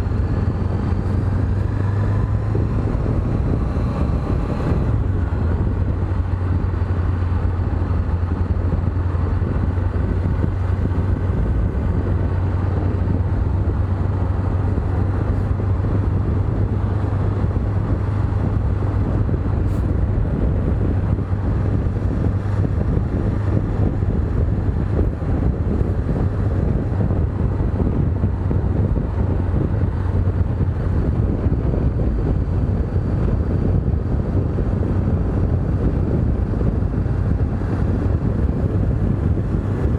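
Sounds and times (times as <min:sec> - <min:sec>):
motorcycle engine drone: 0:00.0 - 0:39.9
wind rushing on microphone: 0:00.0 - 0:39.9.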